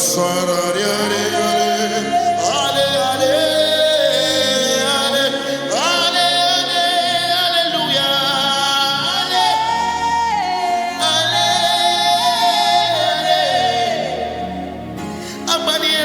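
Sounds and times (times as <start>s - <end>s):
person singing wordless notes: 0.0s - 16.0s
sustained musical backing: 0.0s - 16.0s.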